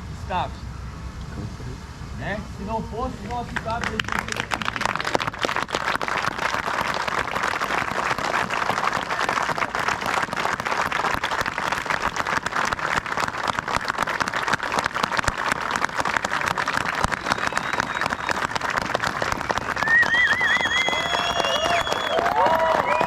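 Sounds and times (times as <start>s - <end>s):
crowd applauding: 3.2s - 23.0s.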